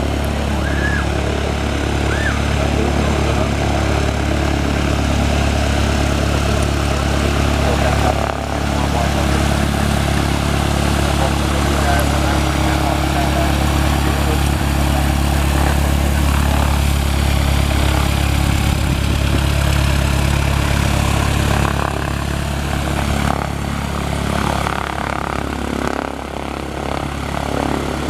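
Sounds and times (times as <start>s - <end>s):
light aircraft engine and propeller: 0.0s - 28.0s.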